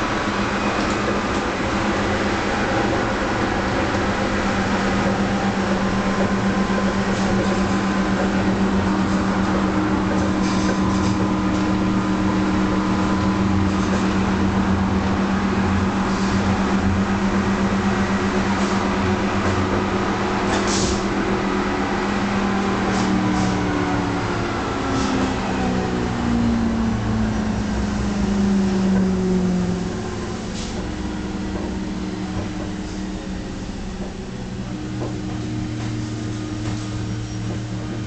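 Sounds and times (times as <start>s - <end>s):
tram hum: 0.0s - 38.0s
wheels rumbling on track: 0.0s - 38.0s.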